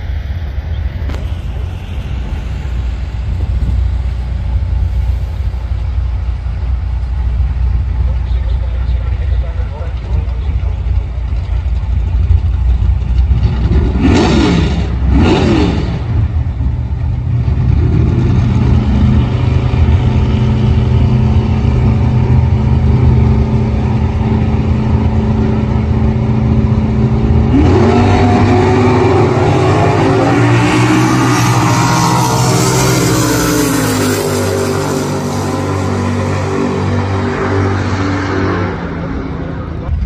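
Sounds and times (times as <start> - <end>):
car engines revving: 0.0 - 40.0
steady engine drone: 0.0 - 40.0
engines accelerating hard: 1.0 - 40.0.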